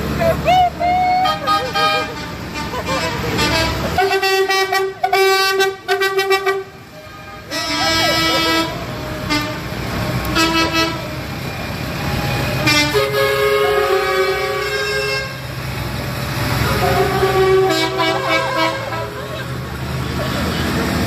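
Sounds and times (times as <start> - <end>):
tractor horns tooting: 0.0 - 11.2, 12.1 - 15.6, 16.4 - 20.9
rumble of engines: 0.0 - 21.0.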